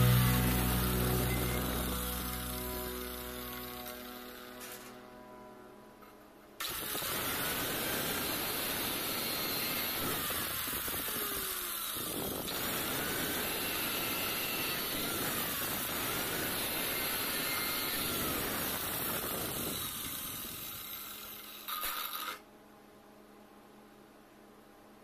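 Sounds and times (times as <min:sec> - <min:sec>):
angle grinder cutting steel rod: 0:00.0 - 0:05.2, 0:06.6 - 0:22.4.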